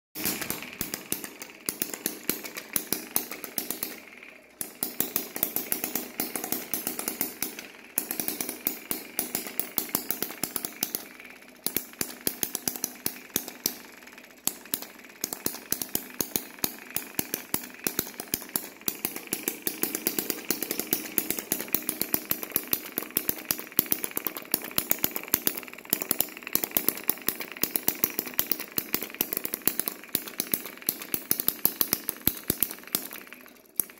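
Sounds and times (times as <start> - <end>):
small engine popping: 0.2 - 33.9.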